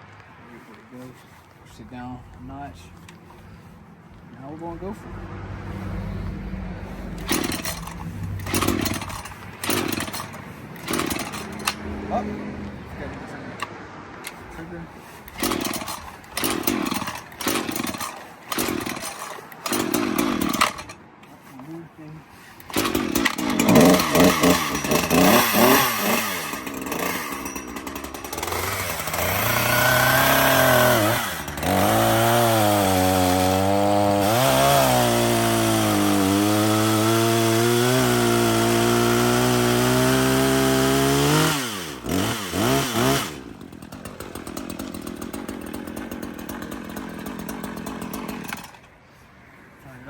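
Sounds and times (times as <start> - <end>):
chainsaw engine revving: 6.9 - 21.5, 22.4 - 48.9.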